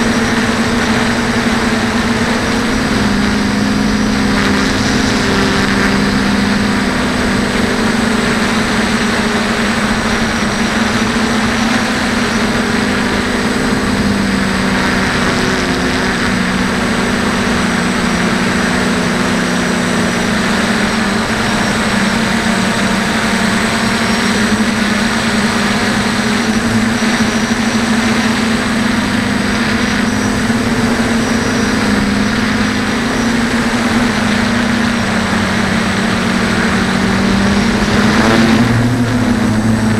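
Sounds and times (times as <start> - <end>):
drone motors humming: 0.0 - 39.9
wind noise: 0.0 - 39.9.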